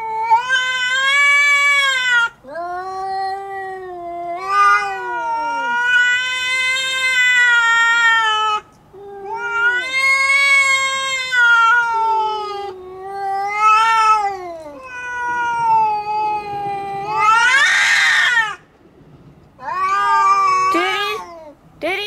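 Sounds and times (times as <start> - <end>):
cats yowling: 0.0 - 18.7, 19.6 - 21.6.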